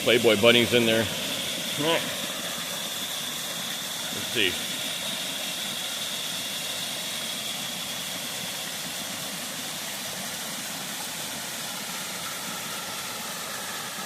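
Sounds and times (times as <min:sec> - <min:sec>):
waterfall pouring into pool: 0:00.0 - 0:14.0.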